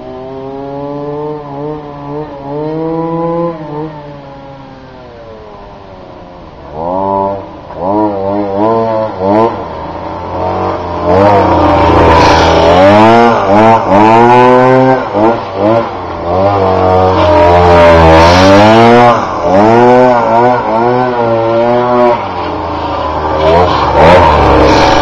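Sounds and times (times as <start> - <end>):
two-stroke scooter engine revving: 0.0 - 4.4, 6.6 - 25.0.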